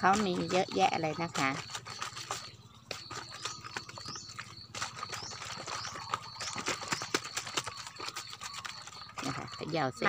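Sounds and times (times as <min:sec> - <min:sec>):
water sloshing in plastic bottle: 0:00.0 - 0:10.0.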